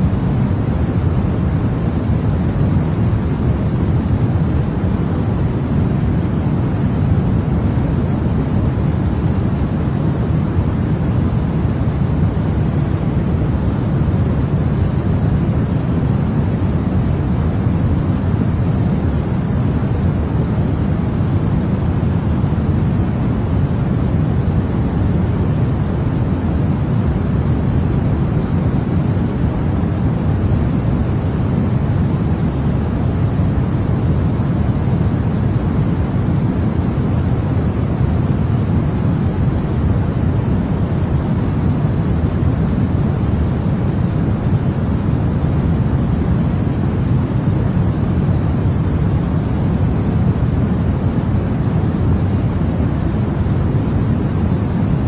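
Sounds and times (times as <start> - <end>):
deep rushing white noise hiss: 0.0 - 55.0.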